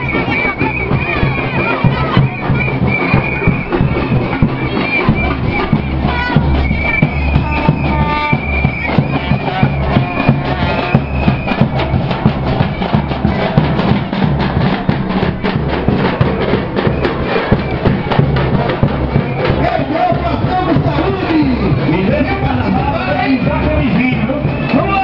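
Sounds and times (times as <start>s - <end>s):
loud carnival music over loudspeakers: 0.0s - 25.0s.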